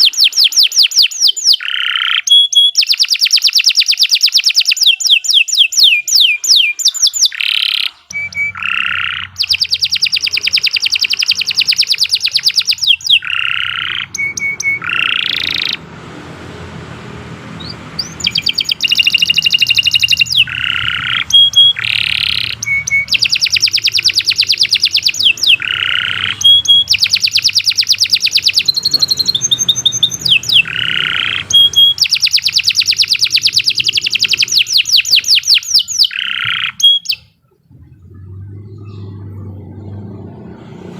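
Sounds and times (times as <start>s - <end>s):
canary singing trills: 0.0s - 15.9s, 17.5s - 40.9s
faint low hum: 8.0s - 40.9s.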